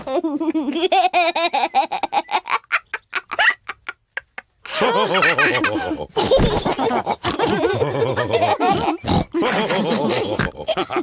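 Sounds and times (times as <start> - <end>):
cartoon characters laughing: 0.0 - 3.9, 4.7 - 11.0.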